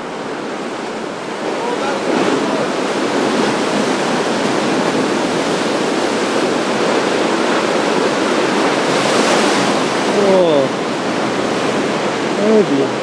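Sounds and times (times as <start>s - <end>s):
waves breaking on rocky shore: 0.0s - 13.0s.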